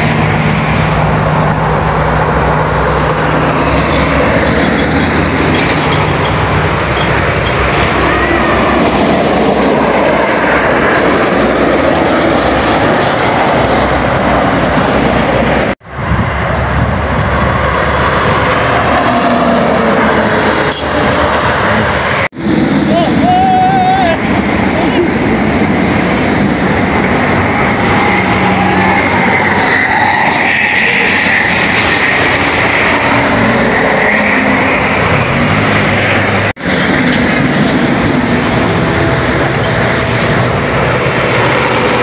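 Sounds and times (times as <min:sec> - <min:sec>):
heavy highway traffic passing: 0:00.0 - 0:42.0.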